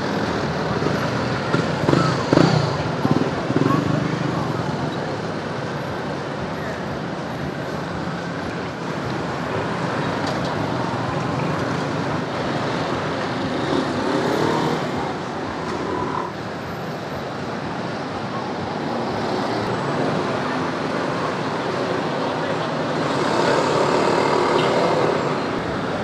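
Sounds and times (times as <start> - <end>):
scooter engines passing: 0.0 - 26.0
street traffic noise: 0.0 - 26.0.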